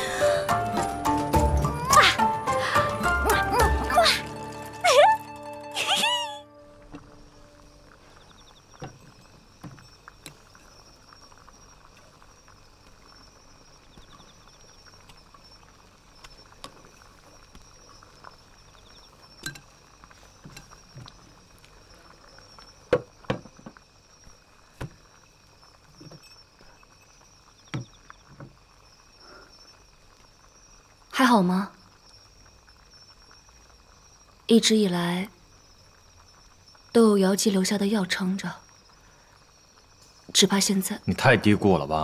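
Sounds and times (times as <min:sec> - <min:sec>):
faint high hiss: 0:05.7 - 0:42.0.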